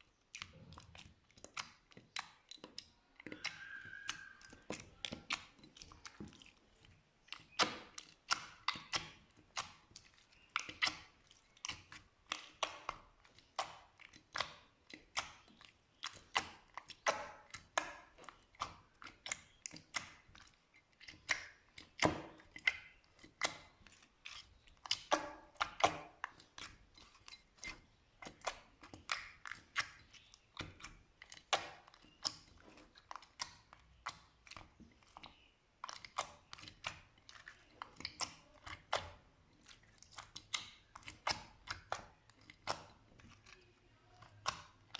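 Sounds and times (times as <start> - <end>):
slime squished by hand: 0.1 - 44.9.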